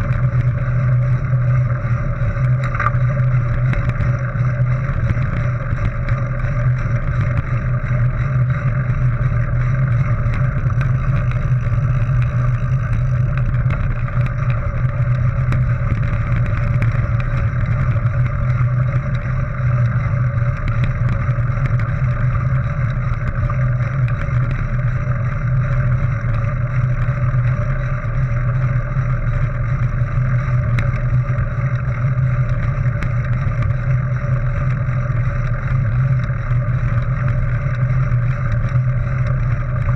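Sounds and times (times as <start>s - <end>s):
bike tyres rolling on gravel: 0.0s - 39.9s
faint gravel ticks: 0.0s - 39.9s.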